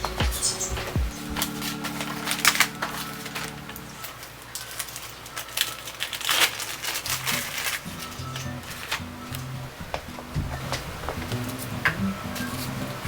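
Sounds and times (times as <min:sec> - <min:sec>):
household items clicking and clattering: 0:00.0 - 0:12.8
soft background music: 0:00.0 - 0:13.0.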